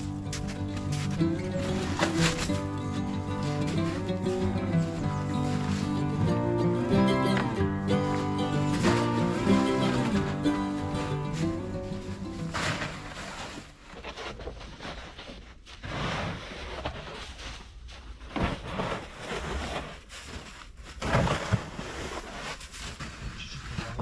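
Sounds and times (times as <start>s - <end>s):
footsteps crunching in snow: 0.0s - 23.9s
snow being packed and scraped: 0.0s - 24.0s.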